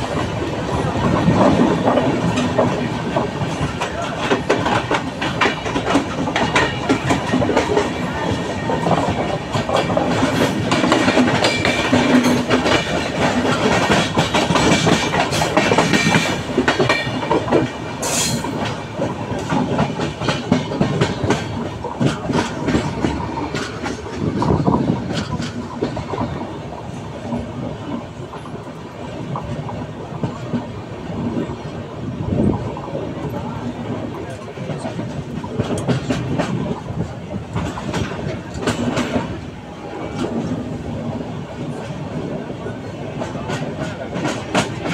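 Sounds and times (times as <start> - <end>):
train wheels clattering on track: 0.0 - 44.9.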